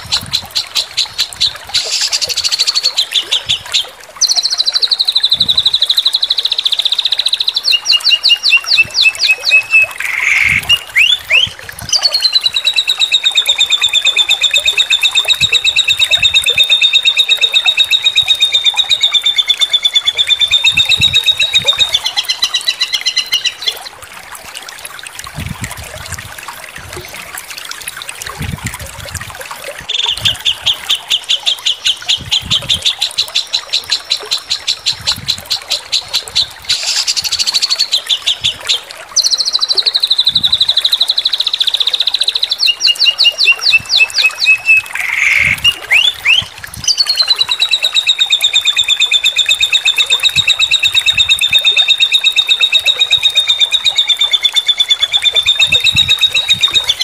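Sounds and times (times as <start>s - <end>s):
songbird singing trills: 0.0s - 23.9s, 29.9s - 57.0s.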